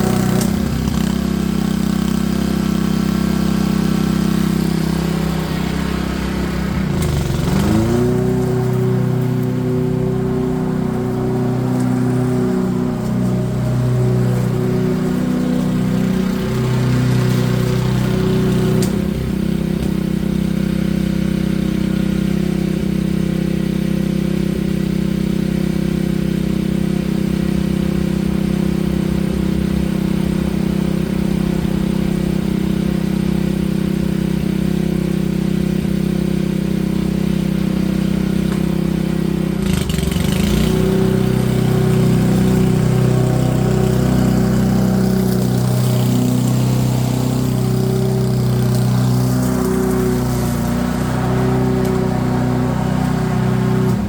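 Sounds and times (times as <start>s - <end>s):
small petrol engine running: 0.0s - 54.0s.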